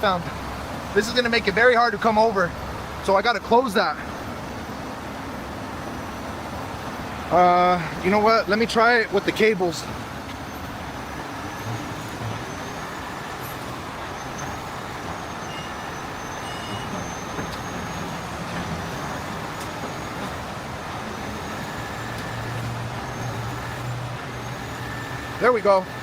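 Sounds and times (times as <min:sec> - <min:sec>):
diesel engine running: 0:00.0 - 0:26.0
noisy hiss: 0:00.0 - 0:26.0.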